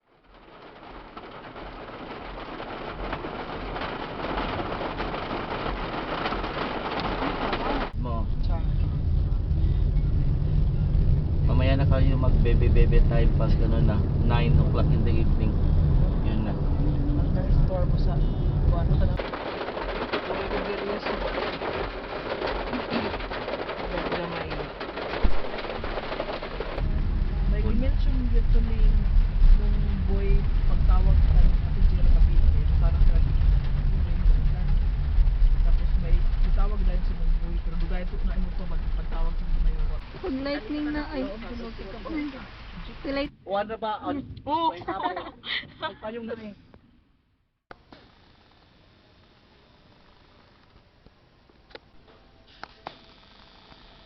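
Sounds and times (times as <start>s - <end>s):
sharp raindrop hits: 0.0s - 43.3s
steady rain falling: 0.0s - 43.3s.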